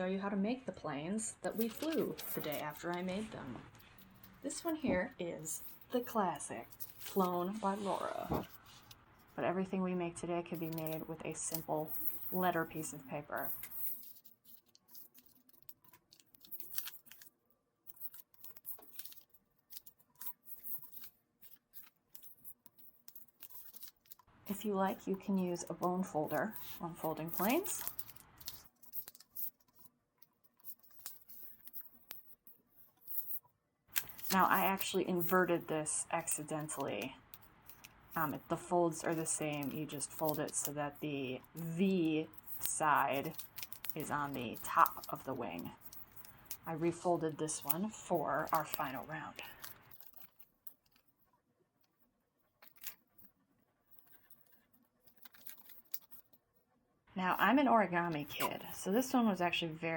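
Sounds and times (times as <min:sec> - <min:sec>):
paper rustling and creasing: 0:01.4 - 0:09.4, 0:10.5 - 0:56.5.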